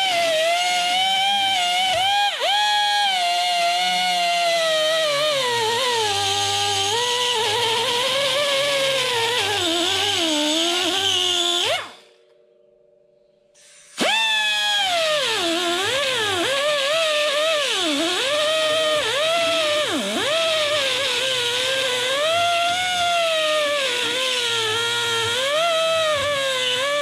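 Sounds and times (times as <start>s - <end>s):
power tool motor running: 0.0s - 12.1s, 13.7s - 27.0s.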